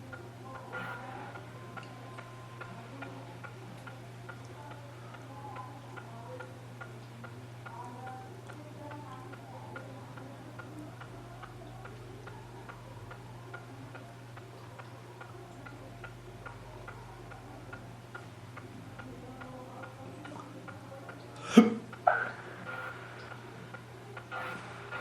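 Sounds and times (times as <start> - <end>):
clock ticking: 0.0 - 25.0
low steady hum: 0.0 - 25.0.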